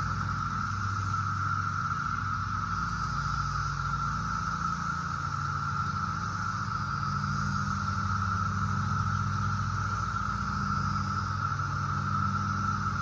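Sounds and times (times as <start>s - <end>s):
cicadas droning: 0.0s - 13.0s
low hum: 0.0s - 13.0s.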